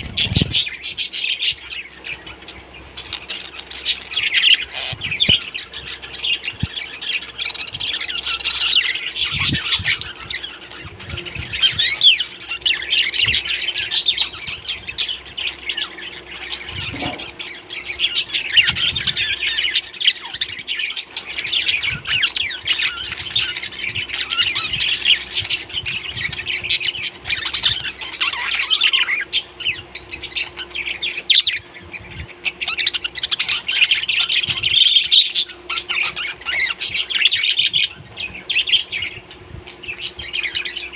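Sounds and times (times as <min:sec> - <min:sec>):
faint steady hum: 0:00.0 - 0:40.9
parrots chattering and squawking: 0:00.0 - 0:40.9.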